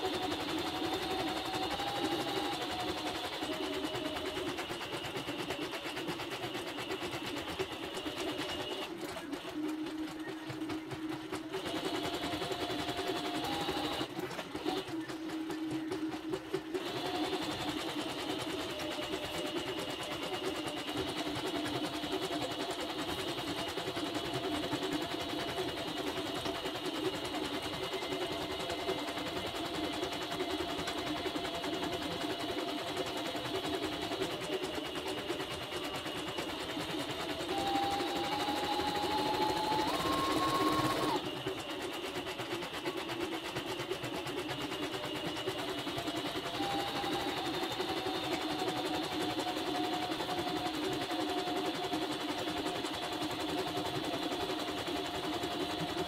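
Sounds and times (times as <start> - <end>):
embroidery machine stitching: 0.0 - 56.0.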